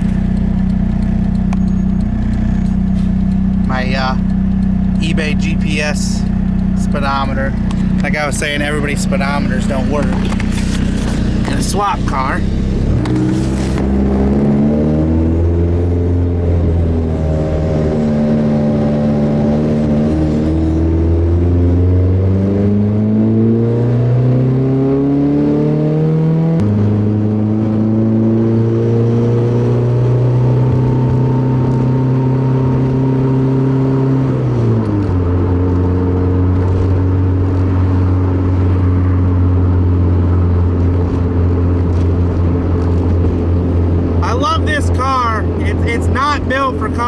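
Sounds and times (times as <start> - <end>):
turbocharged car engine accelerating: 0.0 - 47.0.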